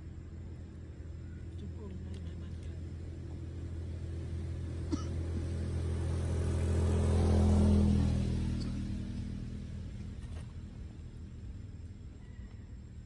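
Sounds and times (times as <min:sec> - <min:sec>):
passing vehicle engine hum: 0:00.0 - 0:13.0.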